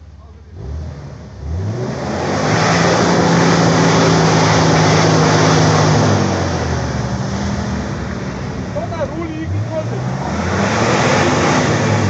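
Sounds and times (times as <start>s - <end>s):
engine revving high: 0.4s - 12.0s
loud rushing noise: 1.8s - 12.0s.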